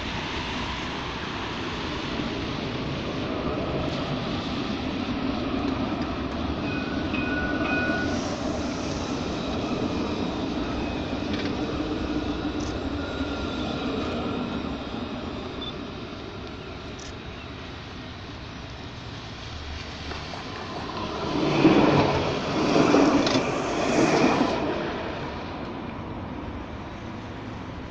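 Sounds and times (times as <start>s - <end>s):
tram wheels and motors rumbling: 0.0s - 27.9s.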